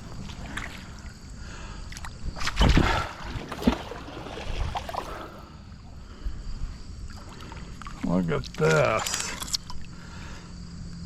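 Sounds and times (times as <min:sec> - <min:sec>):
river water splashing: 0:00.0 - 0:05.8, 0:06.9 - 0:10.2.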